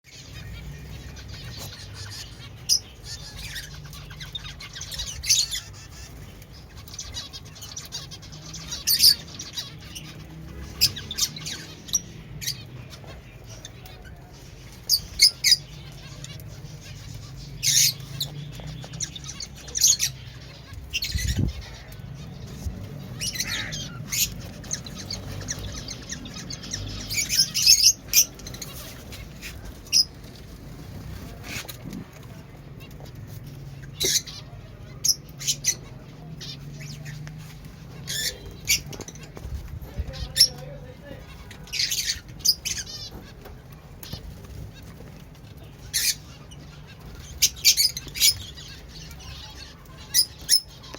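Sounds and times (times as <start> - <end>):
finches chirping: 0.1 - 32.0, 33.0 - 50.9.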